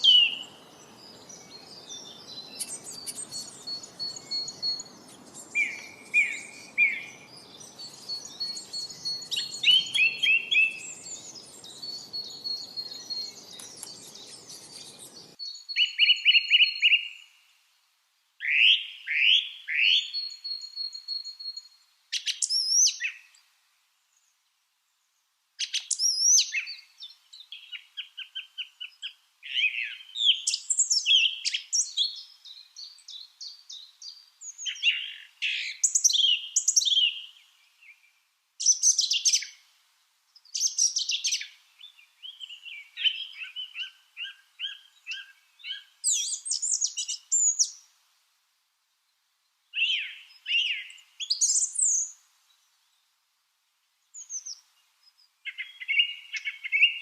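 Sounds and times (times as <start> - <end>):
lovebirds chirping: 0.0 - 17.4, 25.6 - 39.7, 40.4 - 48.0, 49.5 - 53.2, 54.0 - 57.0
short whistled calls: 0.0 - 17.4, 18.4 - 23.4, 25.6 - 39.6, 40.4 - 47.9, 49.8 - 52.2, 55.4 - 57.0.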